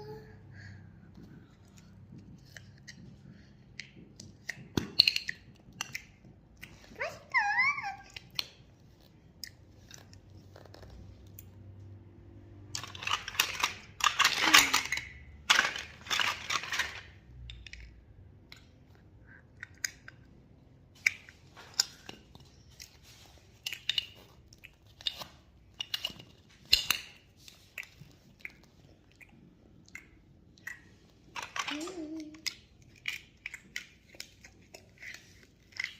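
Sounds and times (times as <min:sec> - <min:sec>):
crunching and chewing: 0:00.9 - 0:07.0, 0:08.0 - 0:14.0, 0:17.0 - 0:31.4, 0:32.4 - 0:35.9.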